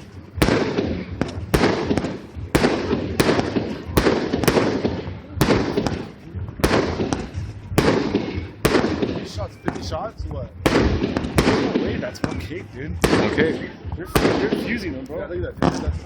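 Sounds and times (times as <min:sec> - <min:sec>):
fireworks booming: 0:00.0 - 0:15.0.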